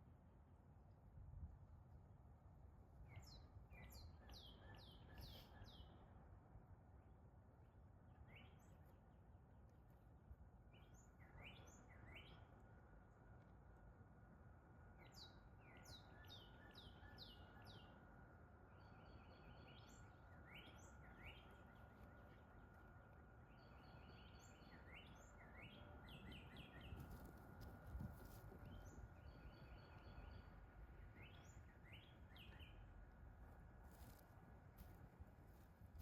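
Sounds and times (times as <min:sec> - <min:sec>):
songbirds singing: 0:03.0 - 0:06.3, 0:08.0 - 0:09.1, 0:10.4 - 0:13.3, 0:13.9 - 0:36.0
low background rumble: 0:05.6 - 0:36.0.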